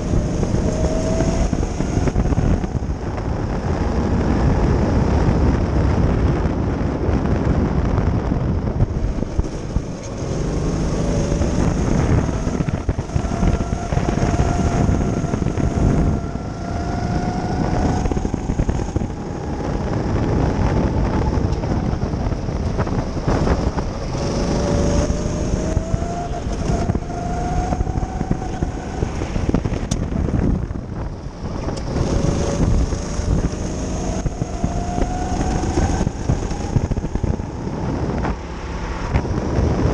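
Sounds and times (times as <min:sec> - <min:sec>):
go-kart engine revving: 0:00.0 - 0:06.2, 0:08.7 - 0:39.9
wind buffeting on microphone: 0:00.0 - 0:39.9.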